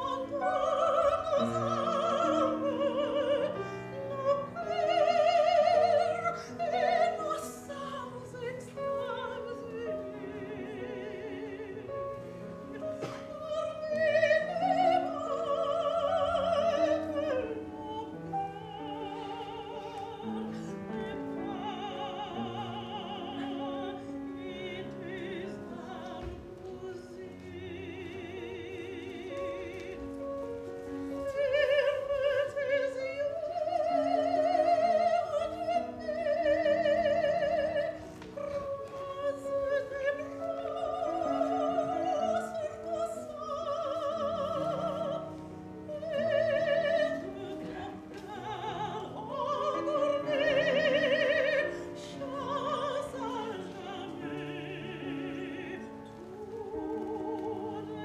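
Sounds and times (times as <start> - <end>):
operatic singing: 0.0 - 58.0.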